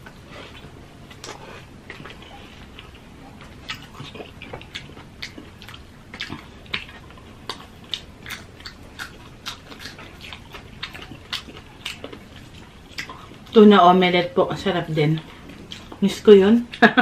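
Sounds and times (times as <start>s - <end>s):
chewing crispy fried food: 0.0s - 17.0s.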